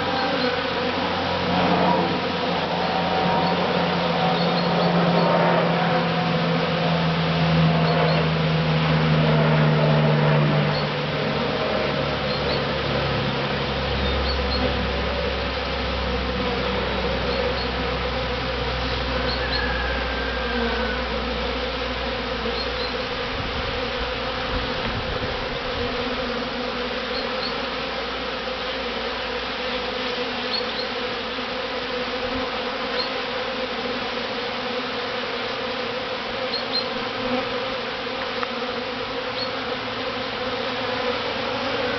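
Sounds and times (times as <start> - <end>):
bees buzzing: 0.0 - 41.9.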